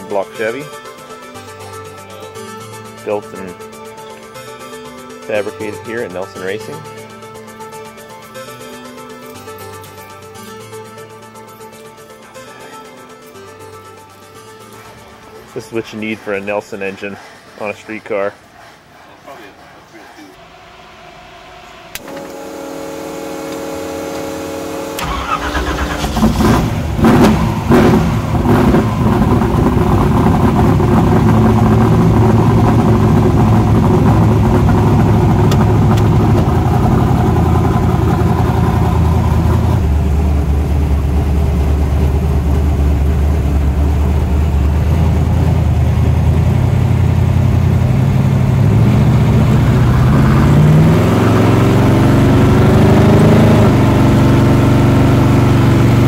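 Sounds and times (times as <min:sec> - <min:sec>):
car engine starting and idling: 0:00.0 - 0:56.0.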